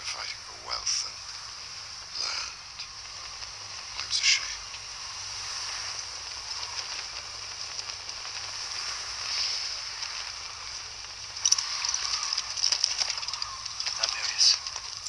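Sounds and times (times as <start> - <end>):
steady hiss with faint crackle: 0.0 - 15.0
sharp clicks and crackles: 0.7 - 15.0.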